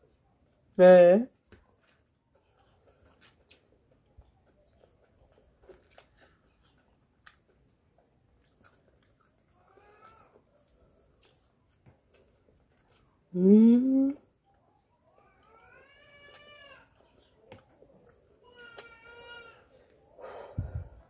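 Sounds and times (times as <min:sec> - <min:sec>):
faint chewing: 0:01.4 - 0:21.0.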